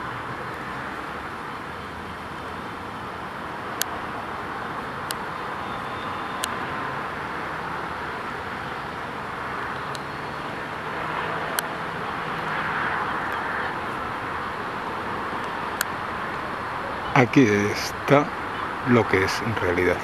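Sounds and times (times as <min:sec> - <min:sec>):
distant city traffic: 0:00.0 - 0:20.0.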